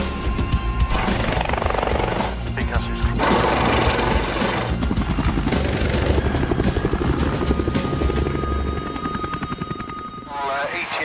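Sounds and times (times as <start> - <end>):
helicopter rotor blades beating: 0.0 - 11.0.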